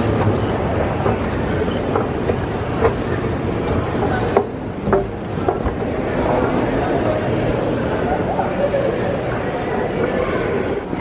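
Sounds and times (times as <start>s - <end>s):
busy terminal hall background: 0.0s - 11.0s
low mechanical rumble: 0.0s - 11.0s.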